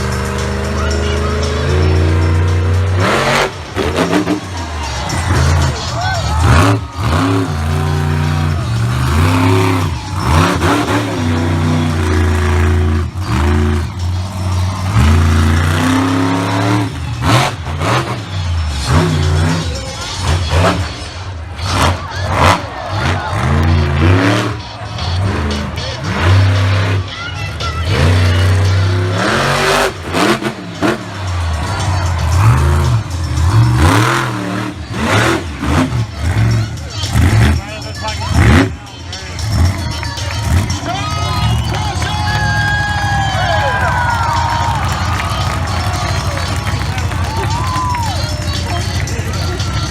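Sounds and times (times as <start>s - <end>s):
monster truck engine revving: 0.0s - 49.9s.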